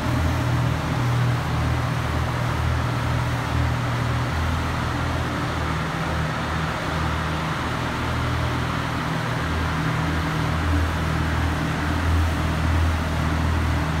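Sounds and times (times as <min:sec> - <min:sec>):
sports car engine idling: 0:00.0 - 0:14.0.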